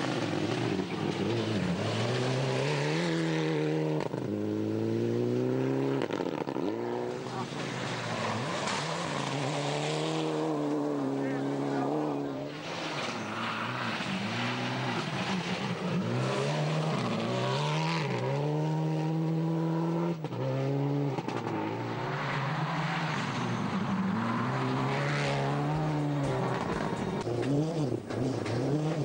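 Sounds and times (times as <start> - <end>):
gravel and tyre noise: 0.0 - 29.0
rally car engine revving: 0.0 - 29.0.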